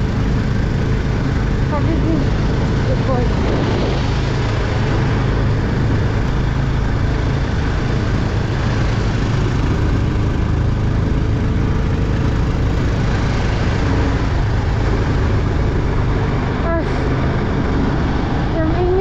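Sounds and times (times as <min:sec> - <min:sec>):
road and wind noise: 0:00.0 - 0:19.0
vehicle engine running: 0:00.0 - 0:19.0.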